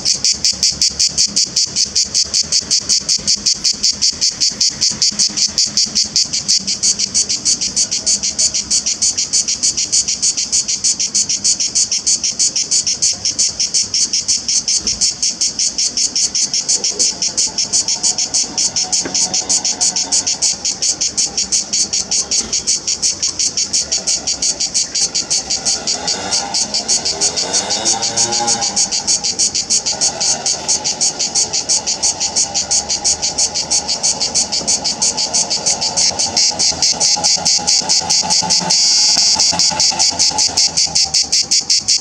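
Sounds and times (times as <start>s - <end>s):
cicada buzzing: 0.0s - 42.0s.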